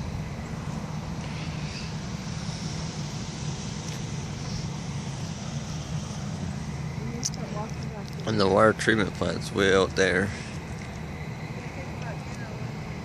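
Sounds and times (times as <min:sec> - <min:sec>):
distant traffic rumble: 0:00.0 - 0:13.0
faint high hiss: 0:00.0 - 0:13.0.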